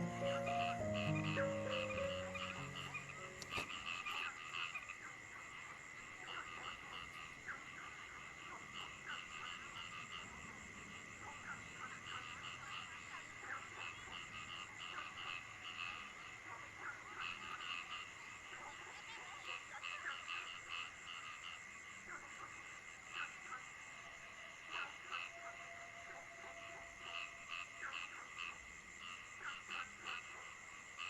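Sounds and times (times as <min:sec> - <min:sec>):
frogs calling: 0:00.0 - 0:31.0.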